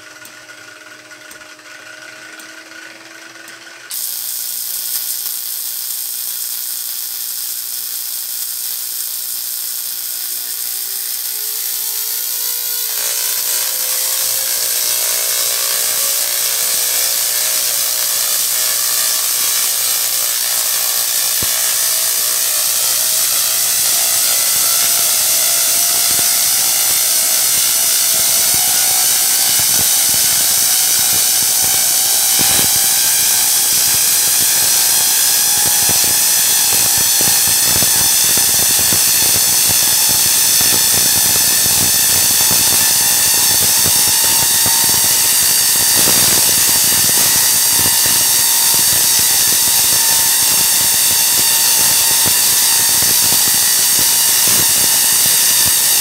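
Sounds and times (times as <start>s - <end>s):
tesla coil buzzing: 0.0s - 56.0s.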